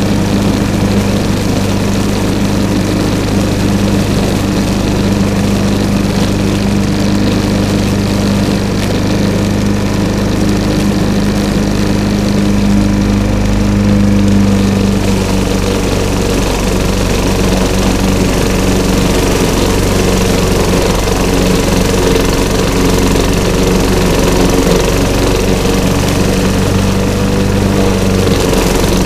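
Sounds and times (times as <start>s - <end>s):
lawn mower running: 0.0s - 29.0s.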